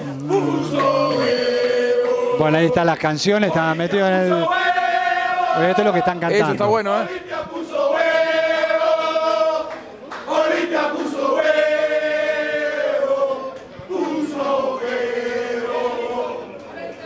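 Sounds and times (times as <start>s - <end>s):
men singing a chant: 0.0s - 9.7s, 10.3s - 16.5s.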